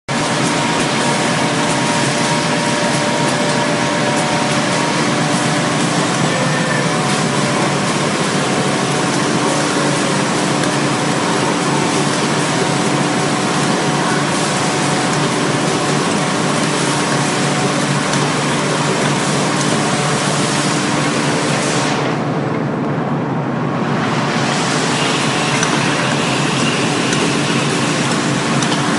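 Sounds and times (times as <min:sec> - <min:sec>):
packing machine mechanical din: 0:00.1 - 0:22.7, 0:24.1 - 0:28.9.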